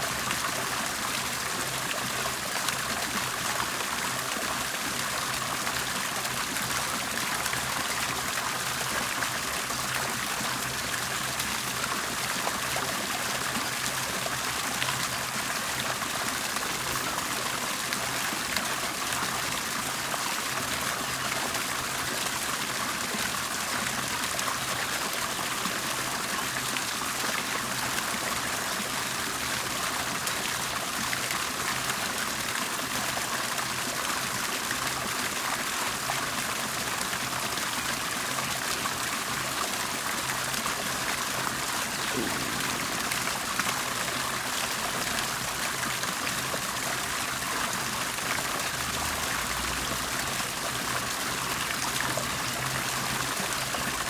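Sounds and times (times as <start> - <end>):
water bubbling and trickling: 0.1 - 54.0.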